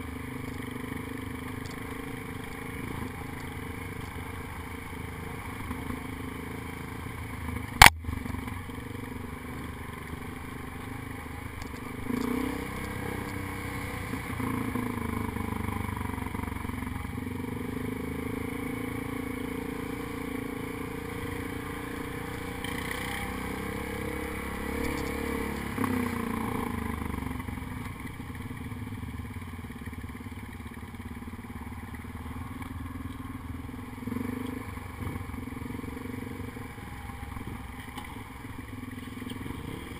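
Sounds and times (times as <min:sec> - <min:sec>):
quad engine running: 0:00.0 - 0:39.9.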